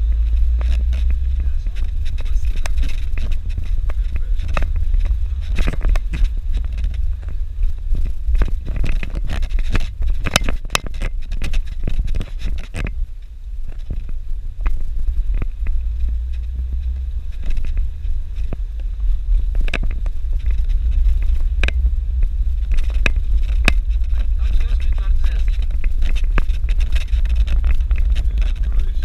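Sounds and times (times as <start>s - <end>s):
bodywork rattling: 0.0s - 29.0s
engine droning: 0.0s - 29.0s
stones crackling under tyres: 0.0s - 29.0s.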